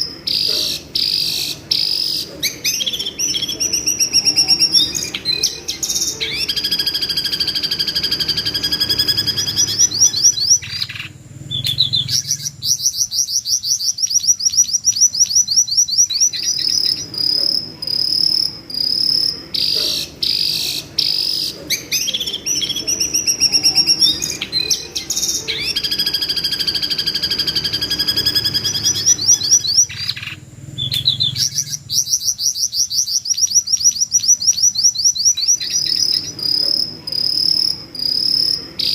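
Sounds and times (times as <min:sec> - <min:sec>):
bird screaming trills: 0:00.0 - 0:38.9.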